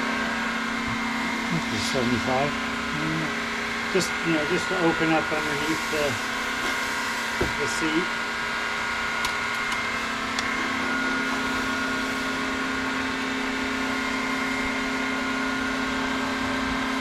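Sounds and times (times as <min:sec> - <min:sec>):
machine motor hum and whine: 0:00.0 - 0:17.0.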